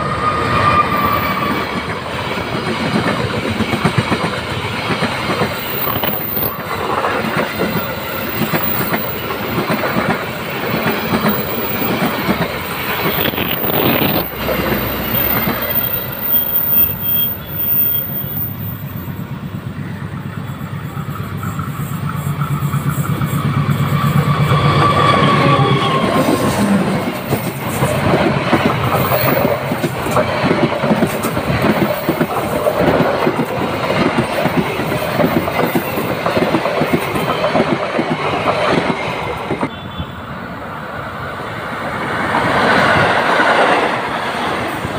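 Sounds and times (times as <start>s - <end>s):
train wheels clattering on rails: 0.0s - 39.8s.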